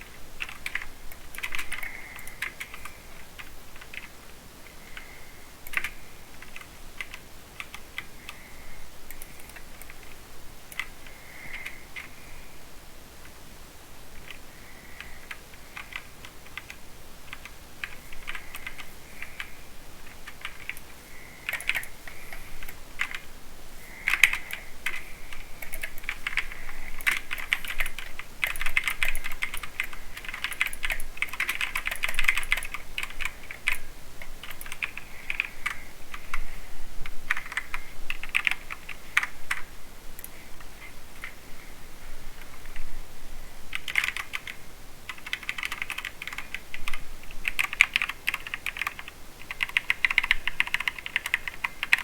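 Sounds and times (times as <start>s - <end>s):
typing on mechanical keyboard: 0.4s - 4.1s, 4.8s - 8.4s, 9.1s - 12.1s, 14.2s - 19.5s, 20.2s - 23.3s, 24.0s - 36.4s, 37.3s - 40.4s, 43.7s - 52.0s.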